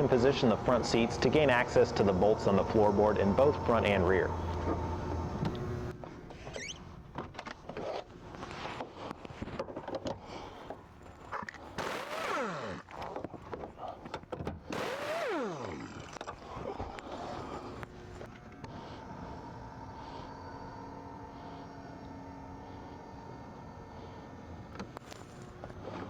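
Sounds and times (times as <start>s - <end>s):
power seat motor whining: 0.0s - 8.1s, 8.8s - 26.0s.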